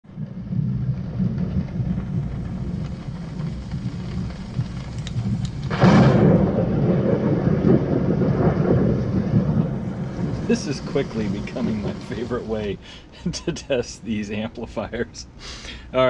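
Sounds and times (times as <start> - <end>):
low rumbling thunder: 0.0 - 15.0
loud thunder crack: 0.1 - 13.9
steady rain: 0.1 - 16.0.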